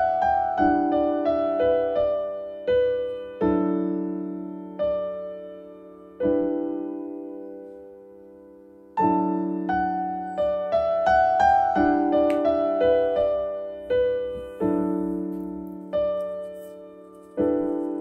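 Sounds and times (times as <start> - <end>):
slow solo piano melody: 0.0 - 18.0.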